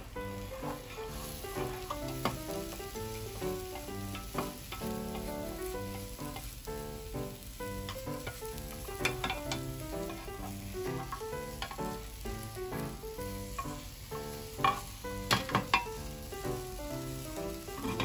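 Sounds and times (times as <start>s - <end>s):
chopsticks tapping a pan: 0.0s - 18.0s
egg sizzling in a pan: 0.0s - 18.0s.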